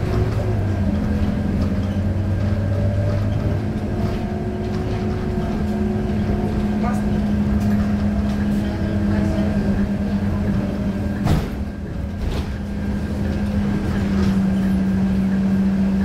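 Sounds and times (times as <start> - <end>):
bus diesel engine hum: 0.0 - 16.0
low road rumble: 0.0 - 16.0.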